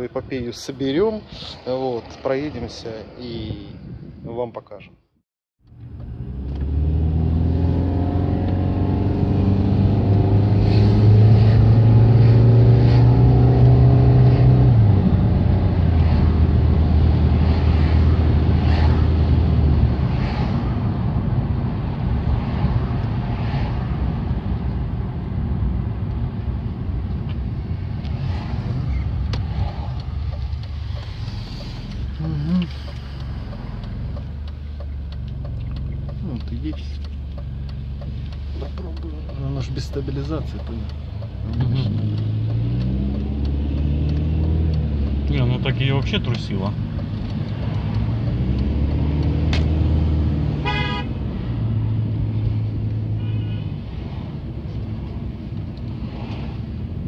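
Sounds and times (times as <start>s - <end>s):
car engine accelerating: 5.6s - 53.2s.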